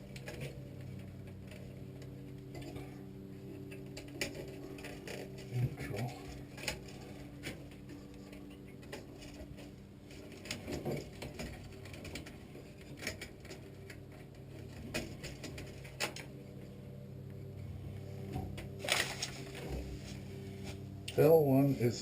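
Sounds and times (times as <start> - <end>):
steady low hum: 0.0 - 22.0
wires rattling: 0.0 - 22.0.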